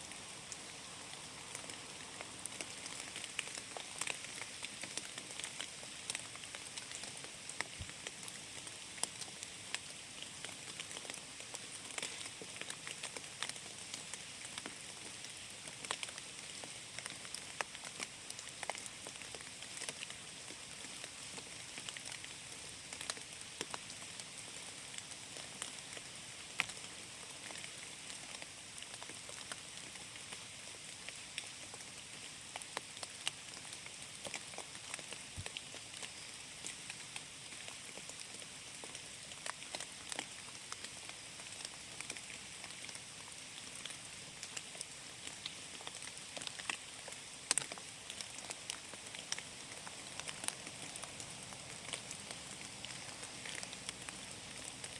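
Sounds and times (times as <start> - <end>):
rain hissing in a forest: 0.0 - 54.9.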